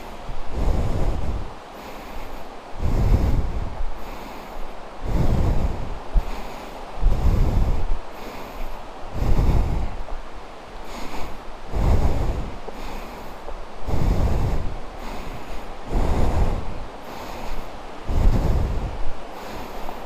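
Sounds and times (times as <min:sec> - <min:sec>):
heavy breathing: 0:00.0 - 0:20.0.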